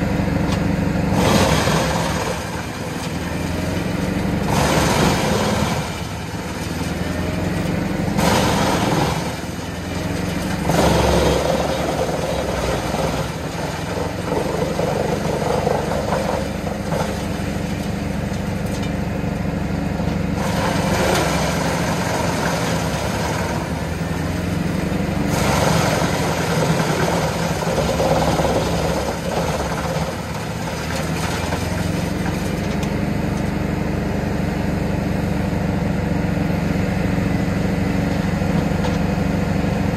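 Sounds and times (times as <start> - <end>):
diesel tractor engine: 0.0 - 39.9
wood chipper chipping logs: 0.0 - 39.9.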